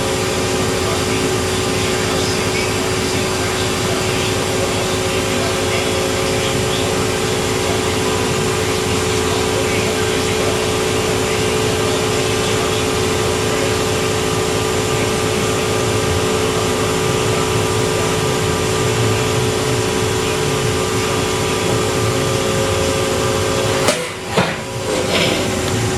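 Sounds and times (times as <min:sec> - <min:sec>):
machine-shop machinery hum: 0:00.0 - 0:25.9.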